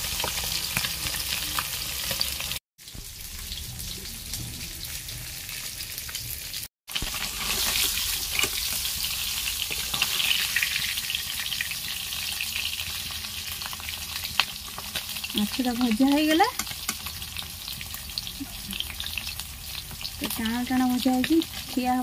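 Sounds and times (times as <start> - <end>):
fish sizzling in oil: 0.0 - 22.0.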